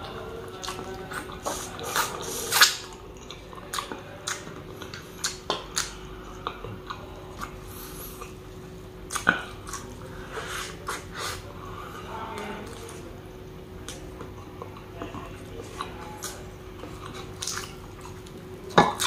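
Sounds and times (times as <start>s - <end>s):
biting and chewing: 0.0s - 8.4s, 9.1s - 11.4s, 13.8s - 19.0s.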